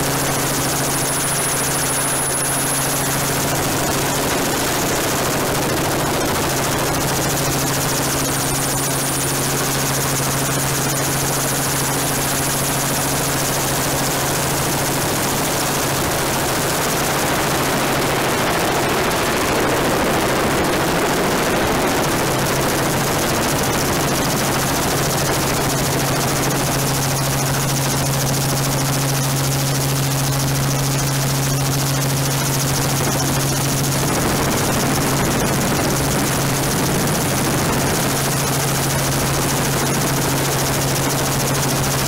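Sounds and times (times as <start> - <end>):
helicopter rotor and turbine: 0.0 - 42.0.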